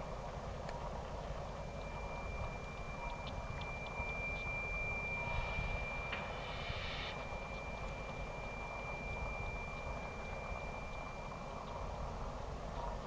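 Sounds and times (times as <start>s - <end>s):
low rumble: 0.9s - 12.4s
train wheels squealing: 1.5s - 12.1s.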